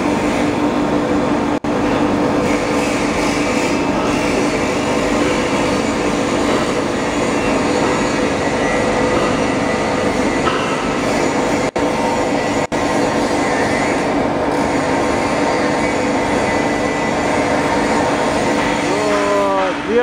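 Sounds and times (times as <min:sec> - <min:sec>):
foam cutting machine running: 0:00.0 - 0:20.0.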